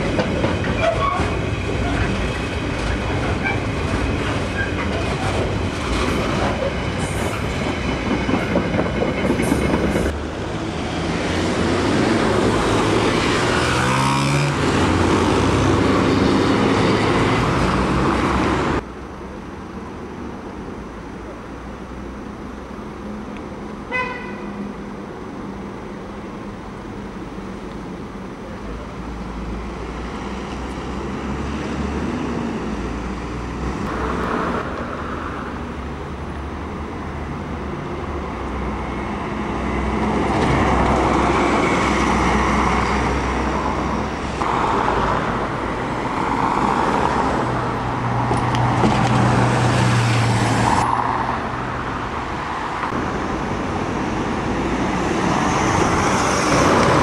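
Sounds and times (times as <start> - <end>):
bus diesel engines: 0.0 - 57.0
road traffic: 0.0 - 57.0.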